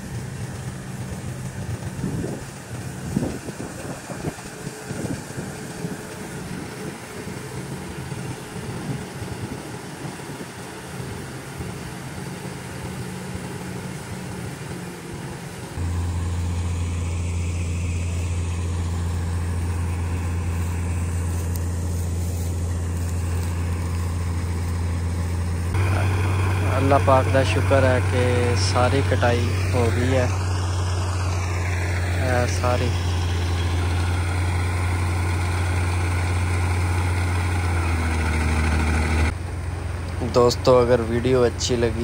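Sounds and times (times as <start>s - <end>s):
strong low hum: 0.0s - 38.1s
combine harvester engine running: 0.0s - 42.0s.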